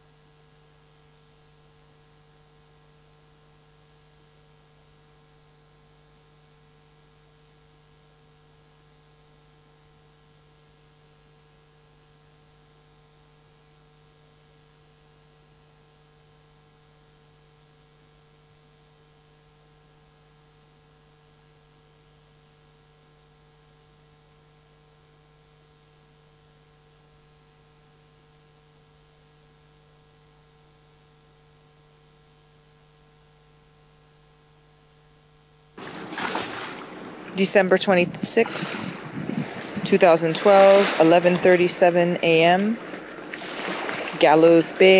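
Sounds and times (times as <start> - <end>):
faint electrical hum: 0.0 - 44.9.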